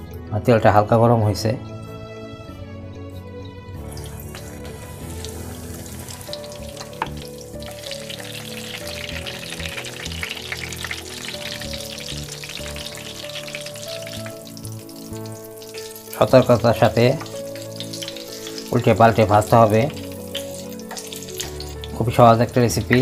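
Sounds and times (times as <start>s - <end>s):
dough sizzling in hot oil: 3.8s - 23.0s.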